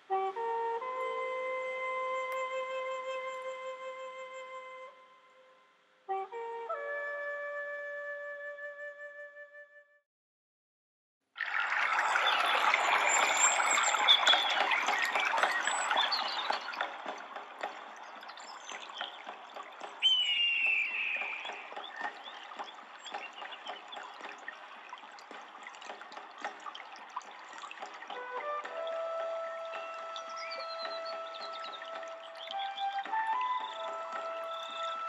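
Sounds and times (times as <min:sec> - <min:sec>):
water trickling and splashing: 0:00.0 - 0:05.0, 0:11.4 - 0:35.0.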